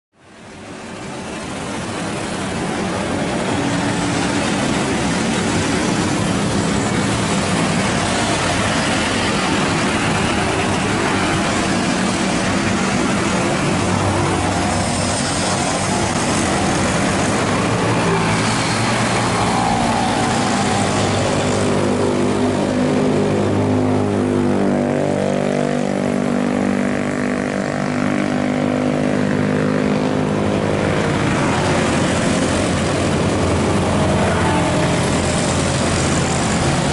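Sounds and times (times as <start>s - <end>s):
wind and road noise: 0.1s - 36.9s.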